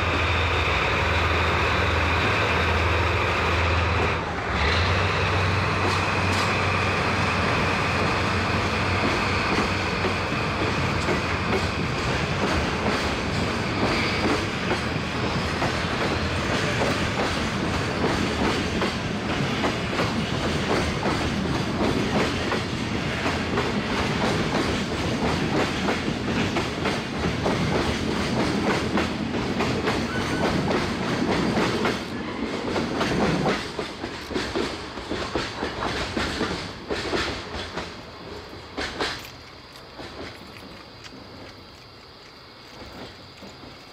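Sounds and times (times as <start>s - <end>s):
diesel locomotive engine drone: 0.0s - 43.9s
train wheels clacking over rail joints: 0.0s - 43.9s.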